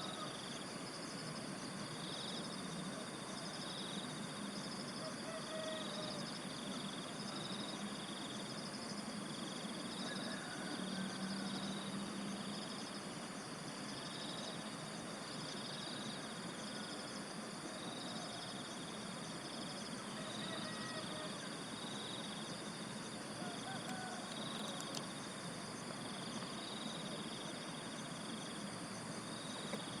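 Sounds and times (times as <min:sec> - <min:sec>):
insects buzzing: 0:00.0 - 0:30.0
pulsing insect trill: 0:00.0 - 0:30.0.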